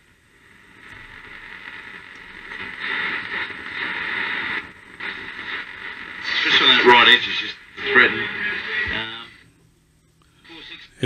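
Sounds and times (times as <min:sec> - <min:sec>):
radio static hiss: 0:00.0 - 0:09.6, 0:10.3 - 0:11.0.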